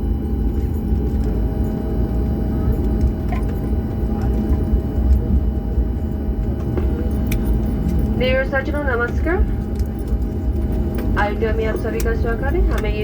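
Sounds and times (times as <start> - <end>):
faint steady hum: 0.0 - 13.0
jet engine and cabin rumble: 0.0 - 13.0.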